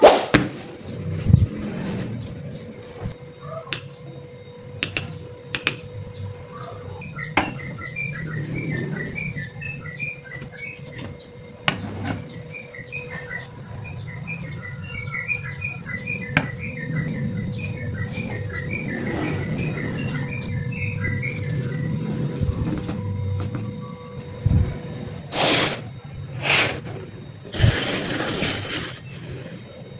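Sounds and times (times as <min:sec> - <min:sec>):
small birds chirping: 0:00.8 - 0:29.9.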